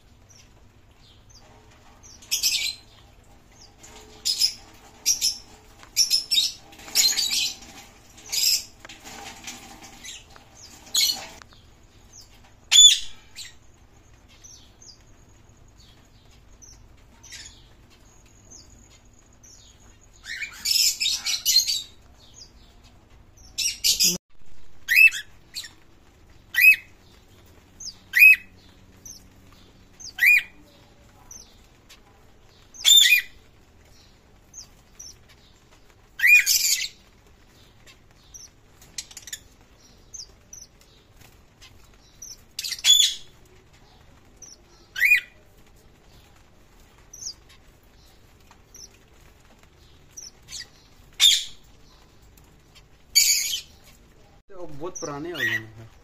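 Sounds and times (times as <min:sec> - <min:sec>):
birds chattering rapidly: 0:00.0 - 0:24.2, 0:24.8 - 0:56.0
pet birds chirping: 0:00.0 - 0:24.2, 0:24.8 - 0:56.0.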